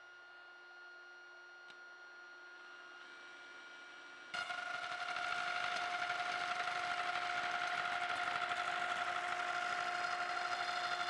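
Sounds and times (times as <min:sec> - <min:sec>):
router high whine: 0:00.0 - 0:11.0.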